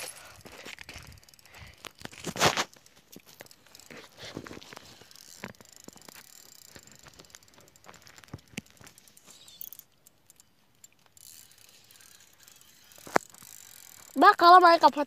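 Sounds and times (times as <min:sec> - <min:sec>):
fishing reel clicking: 0:00.0 - 0:15.0.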